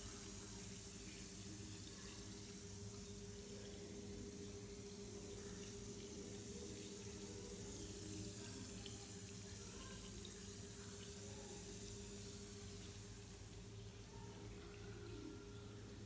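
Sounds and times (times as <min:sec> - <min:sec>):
bath bomb fizzing: 0:00.0 - 0:16.0
low steady hum: 0:00.0 - 0:16.0.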